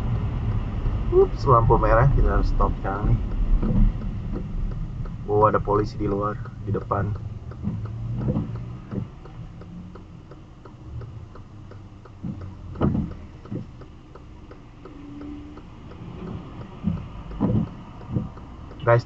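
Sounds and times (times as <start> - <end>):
low engine and traffic rumble: 0.0 - 19.0
car turn indicator ticking: 0.1 - 19.0.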